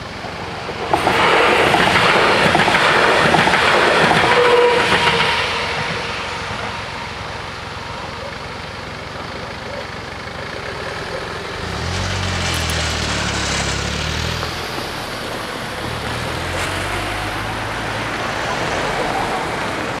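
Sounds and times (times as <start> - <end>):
car engines under load: 0.0 - 20.0
tyres rolling over rails: 0.0 - 20.0.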